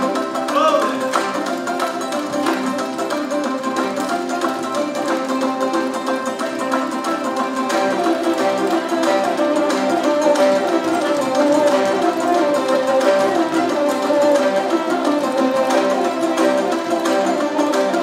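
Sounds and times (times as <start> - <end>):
held notes: 0.0 - 18.0
plucked lutes: 0.0 - 18.0.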